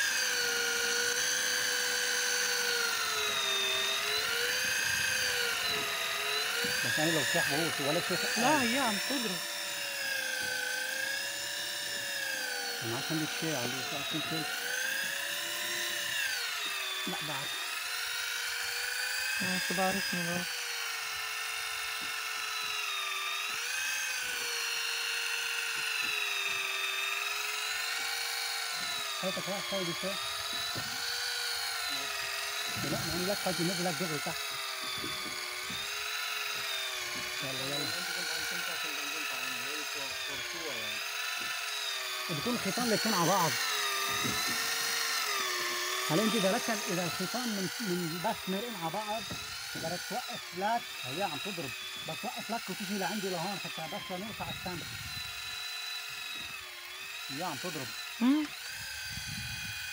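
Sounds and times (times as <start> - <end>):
electric fishing reel motor whining: 0.0 - 59.9.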